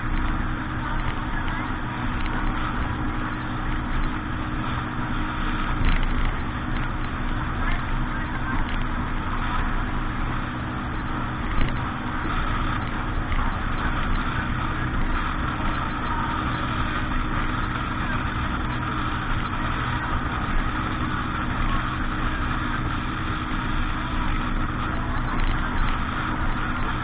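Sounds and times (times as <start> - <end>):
continuous rushing noise: 0.0 - 27.0
engine running: 0.0 - 27.0.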